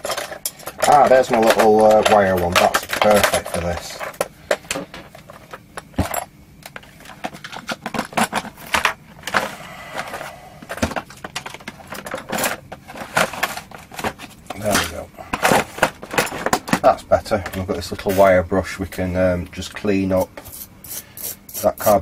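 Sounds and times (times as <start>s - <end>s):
tools clattering on workbench: 0.0s - 18.3s.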